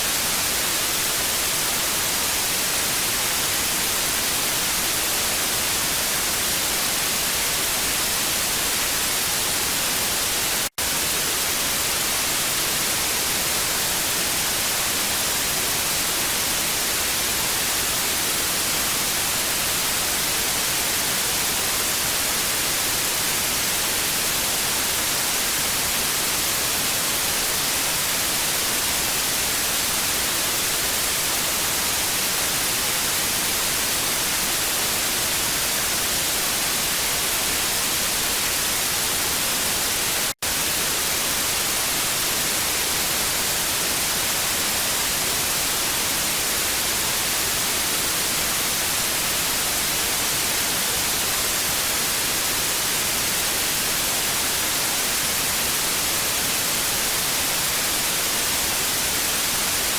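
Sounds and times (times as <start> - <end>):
television static hiss: 0.0 - 59.9.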